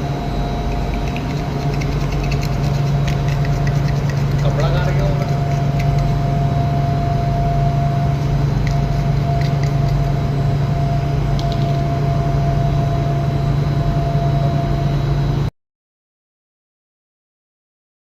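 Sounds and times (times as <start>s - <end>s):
machinery low hum: 0.0s - 15.5s.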